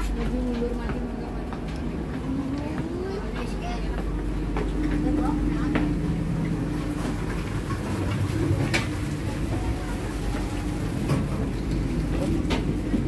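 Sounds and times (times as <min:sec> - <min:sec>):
train coach rumble and hum: 0:00.0 - 0:13.0.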